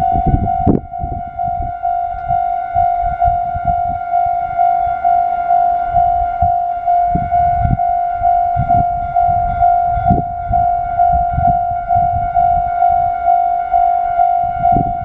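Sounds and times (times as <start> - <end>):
level crossing warning bell ringing: 0.0 - 15.0
low rumbles: 0.0 - 15.0.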